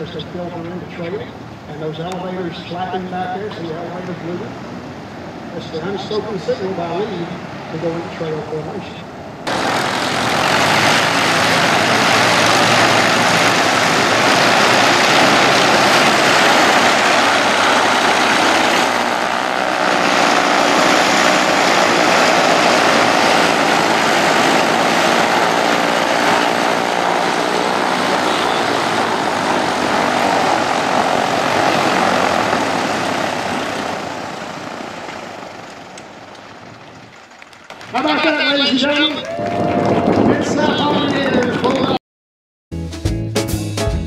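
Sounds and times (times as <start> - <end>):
propeller airplane engines droning: 0.0 - 39.3.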